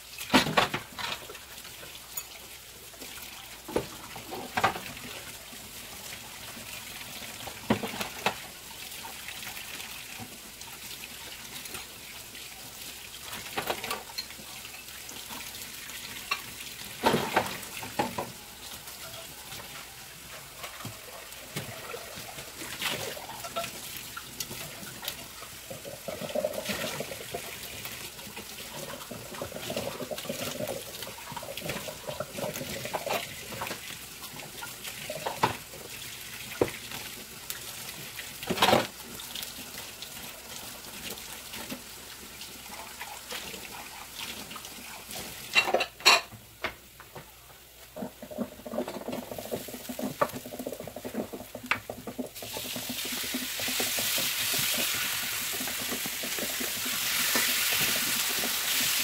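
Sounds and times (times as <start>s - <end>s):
pops and crackles of frying: 0.0s - 59.0s
onions sizzling in frying pan: 10.2s - 47.0s, 47.6s - 59.0s.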